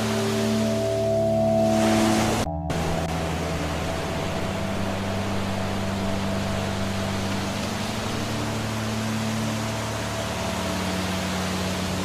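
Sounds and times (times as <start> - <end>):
drone-like music pad: 0.0 - 12.0
waterfall rushing: 0.0 - 12.0.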